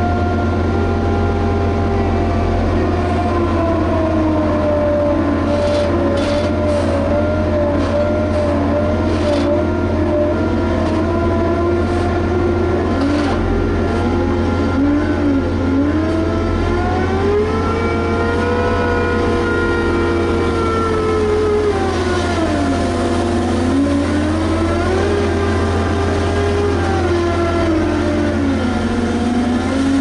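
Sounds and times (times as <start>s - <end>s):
diesel engine running: 0.0s - 30.0s
low hum: 0.0s - 30.0s.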